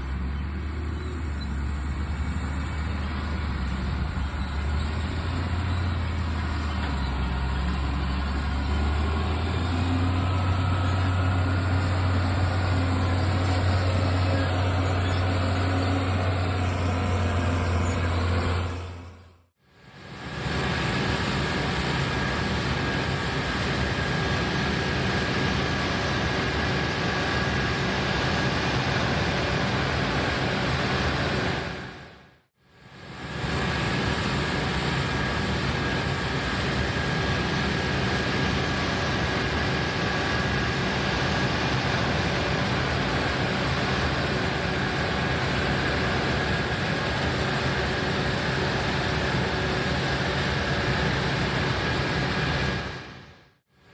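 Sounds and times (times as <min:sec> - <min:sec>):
diesel farm machinery engine drone: 0:00.0 - 0:53.9.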